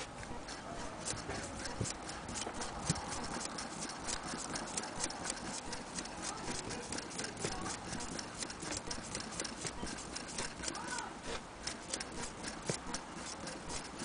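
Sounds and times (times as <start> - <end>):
sewing machine clicking: 0.0 - 14.0.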